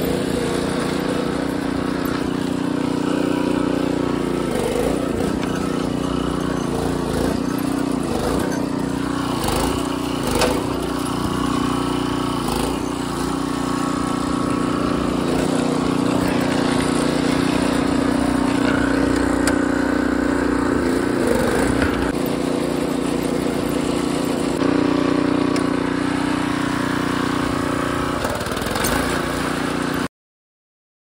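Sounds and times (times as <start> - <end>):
garden tractor engine running: 0.0 - 30.1.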